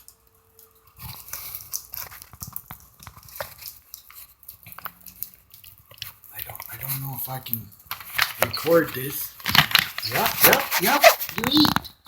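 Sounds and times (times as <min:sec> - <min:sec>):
birds cracking seeds: 0:00.0 - 0:12.0.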